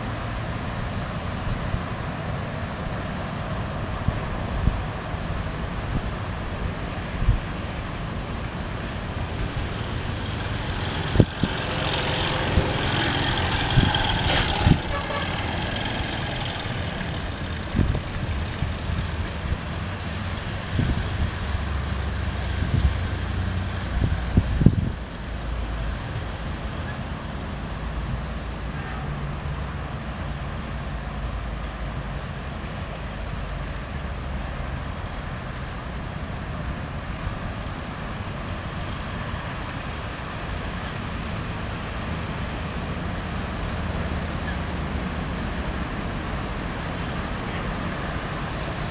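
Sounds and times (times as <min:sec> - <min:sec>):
motor vehicles rumbling: 0:00.0 - 0:48.9
wind: 0:00.0 - 0:48.9.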